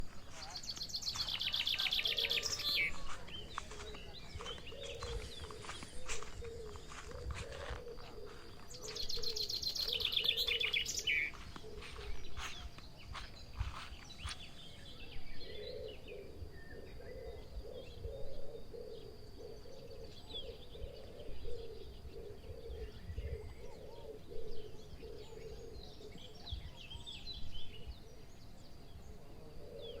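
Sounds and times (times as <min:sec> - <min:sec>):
low bird call: 0:00.0 - 0:27.0.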